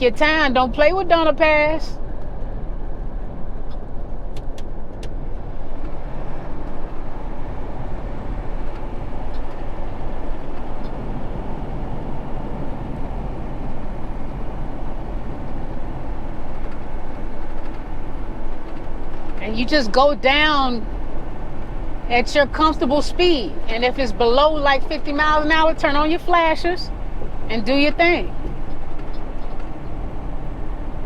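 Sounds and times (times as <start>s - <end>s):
truck engine and road noise: 0.0s - 31.0s.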